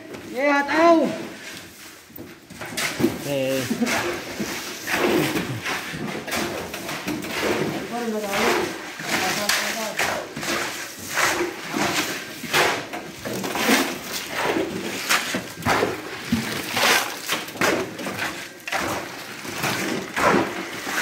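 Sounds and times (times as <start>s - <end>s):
shovels scraping wet concrete: 0.2s - 21.0s.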